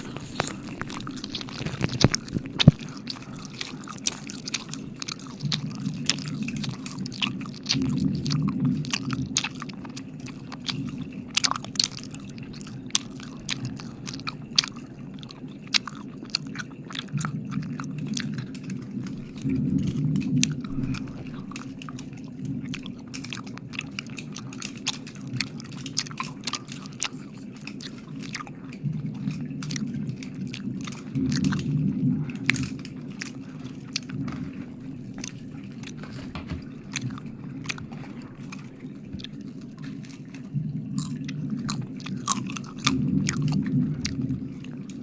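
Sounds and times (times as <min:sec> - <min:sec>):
wet mouth clicks and smacks: 0:00.0 - 0:45.0.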